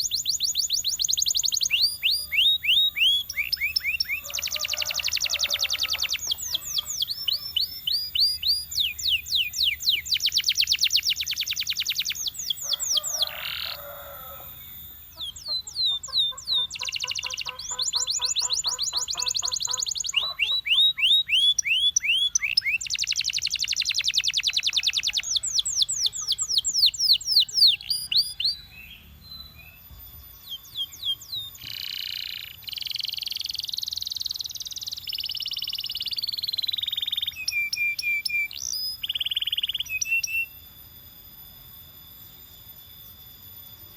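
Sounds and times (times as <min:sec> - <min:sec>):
canary singing fast trills: 0:00.0 - 0:43.9.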